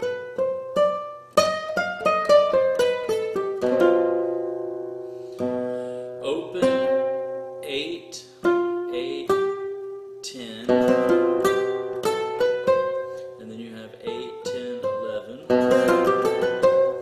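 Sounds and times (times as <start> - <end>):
flamenco guitar: 0.0 - 17.0.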